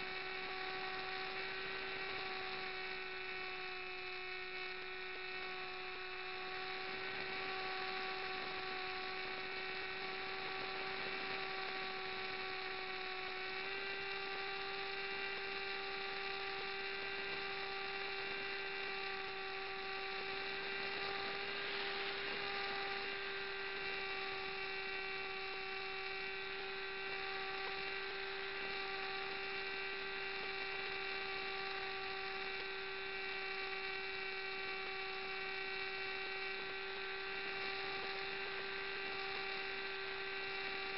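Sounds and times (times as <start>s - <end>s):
electric motor and propeller whine: 0.0s - 40.9s.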